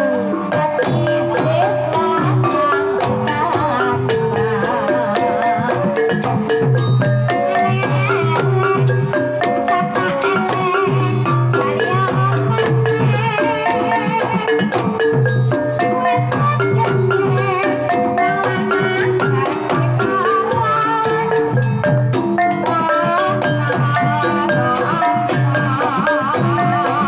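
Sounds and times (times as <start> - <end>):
hand drum: 0.0 - 27.0
woman singing wavering line: 0.0 - 27.0
xylophone-like melody: 0.0 - 27.0.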